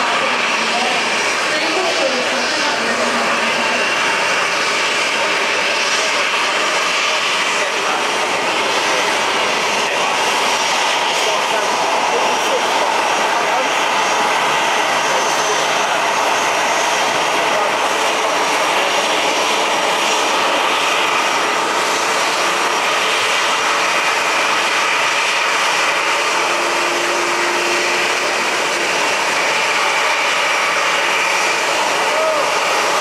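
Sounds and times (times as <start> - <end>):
jet engines rushing and whining: 0.0 - 33.0.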